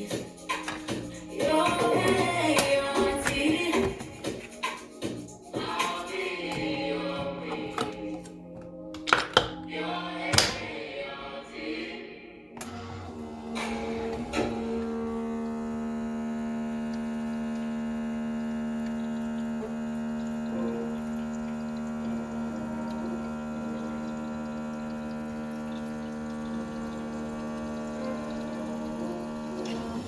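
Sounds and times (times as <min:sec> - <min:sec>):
electric hum: 0:00.0 - 0:08.5, 0:12.6 - 0:30.0.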